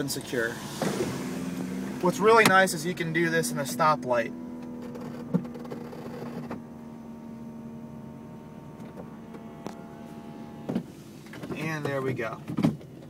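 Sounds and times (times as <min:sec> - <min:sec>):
electric motors humming: 0:00.5 - 0:11.5.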